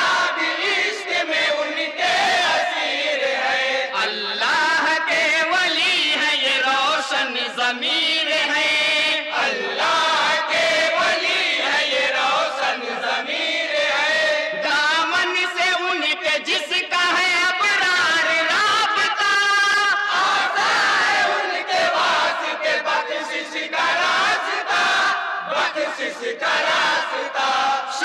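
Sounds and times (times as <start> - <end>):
men chanting in chorus: 0.0 - 28.0.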